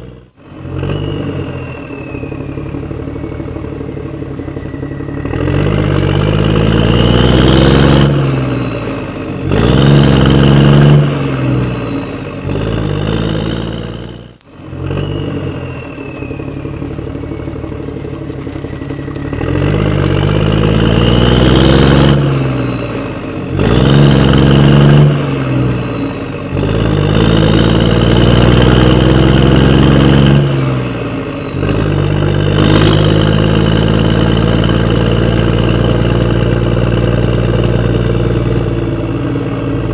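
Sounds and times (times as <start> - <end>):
diesel tractor engine revving: 0.0 - 39.9.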